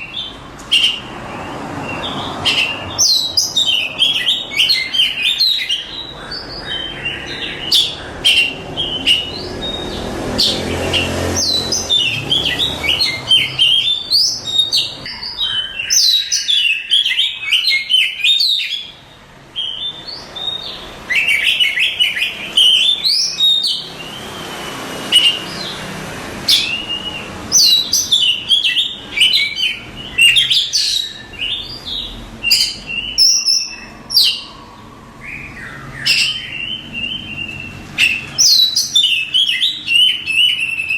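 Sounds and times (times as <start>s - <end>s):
bird singing rapid whistles: 0.0s - 40.9s.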